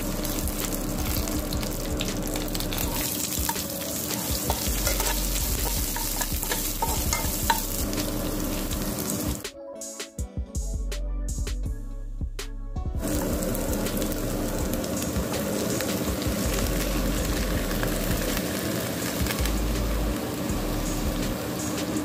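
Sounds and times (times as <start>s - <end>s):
beans sizzling in hot oil: 0.0s - 9.4s, 13.0s - 22.0s.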